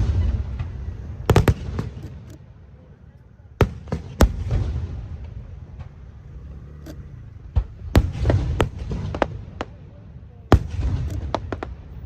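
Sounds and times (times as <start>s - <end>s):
fireworks bangs and pops: 0.0s - 2.6s, 3.6s - 6.2s, 7.3s - 12.0s.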